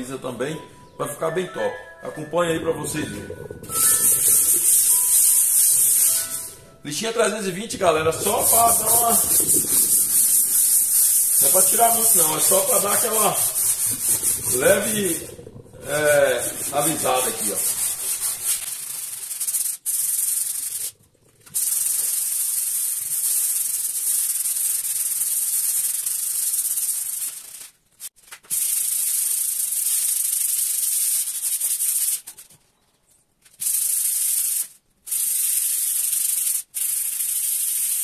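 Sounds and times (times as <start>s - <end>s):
sandpaper scratching hiss: 3.7s - 6.7s, 8.0s - 20.9s, 21.6s - 32.4s, 33.6s - 38.0s.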